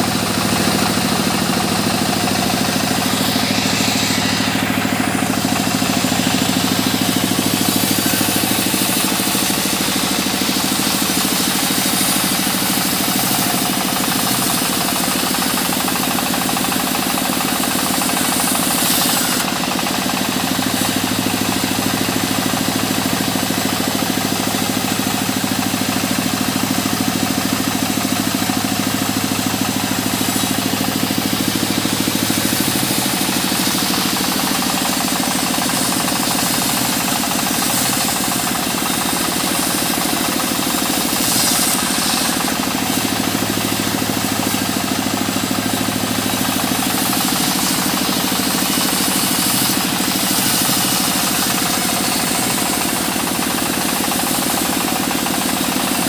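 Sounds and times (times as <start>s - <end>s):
machine running hum: 0.0s - 55.3s
saw cutting through wood: 0.0s - 56.0s.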